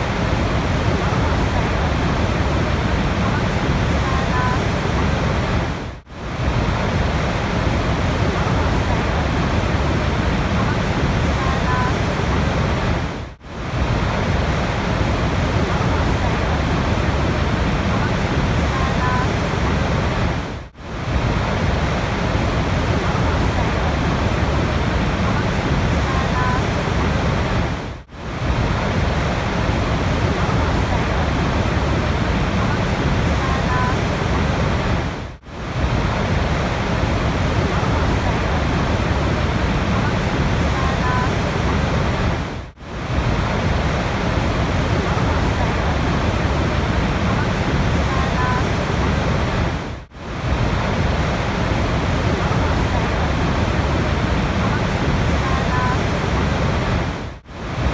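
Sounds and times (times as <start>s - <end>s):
rushing water: 0.0s - 57.9s.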